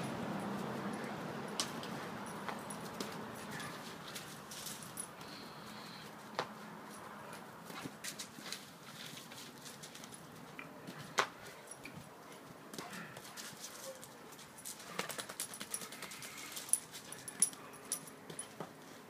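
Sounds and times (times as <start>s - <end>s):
dog paws scrabbling on wooden deck: 1.6s - 5.1s, 6.2s - 19.0s.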